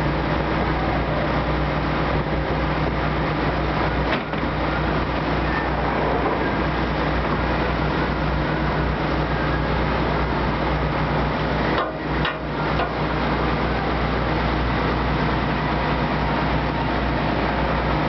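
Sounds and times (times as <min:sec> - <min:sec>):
boat engine drone: 0:00.0 - 0:18.0
constant rushing noise: 0:00.0 - 0:18.0.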